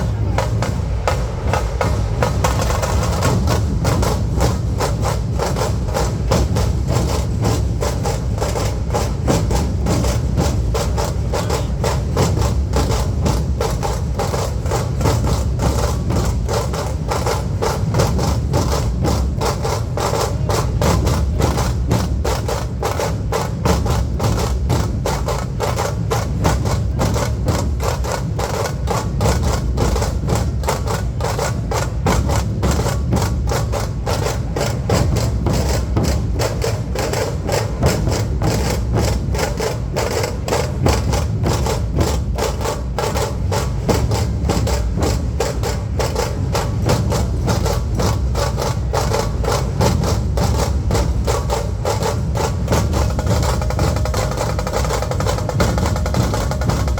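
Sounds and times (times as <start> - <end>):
drums beaten in fast rhythm: 0.0 - 56.9.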